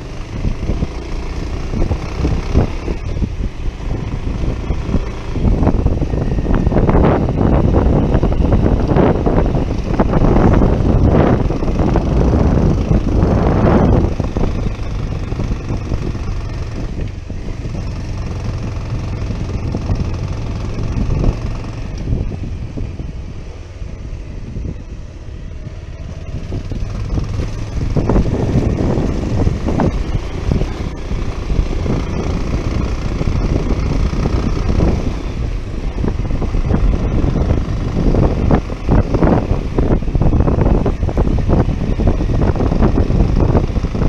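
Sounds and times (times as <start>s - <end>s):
motorcycle engine running: 0.0s - 44.0s
wind rushing over microphone: 0.0s - 44.0s.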